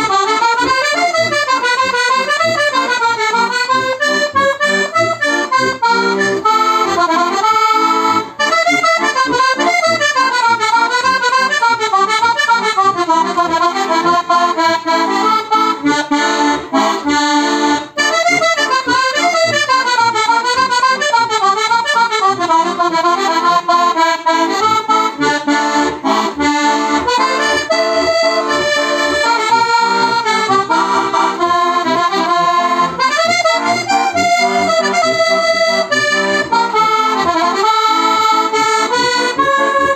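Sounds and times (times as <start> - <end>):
button accordion playing folk tune: 0.0 - 39.9.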